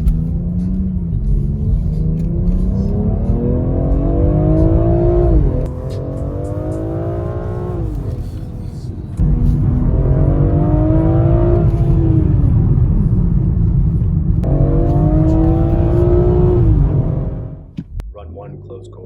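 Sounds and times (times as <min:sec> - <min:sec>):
car engine accelerating hard: 0:00.0 - 0:18.1
heavy low rumble: 0:00.0 - 0:19.0.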